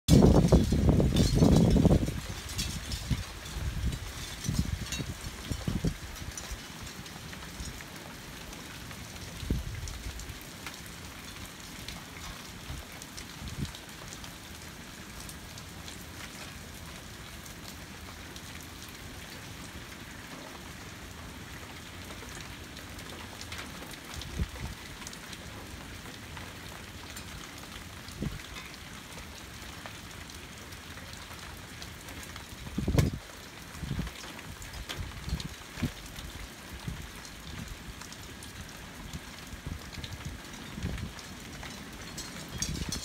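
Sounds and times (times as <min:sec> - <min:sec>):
steady rain falling: 0:00.1 - 0:43.0.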